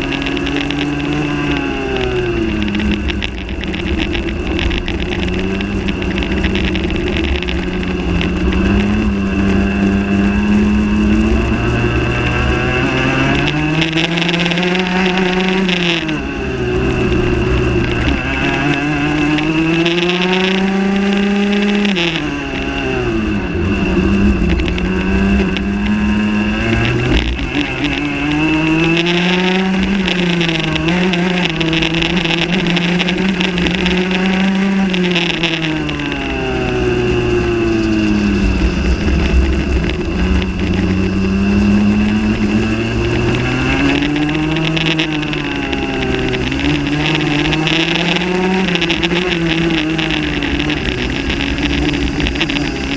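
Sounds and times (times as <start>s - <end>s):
high whine: 0.0s - 52.9s
kart engine revving: 0.0s - 52.9s.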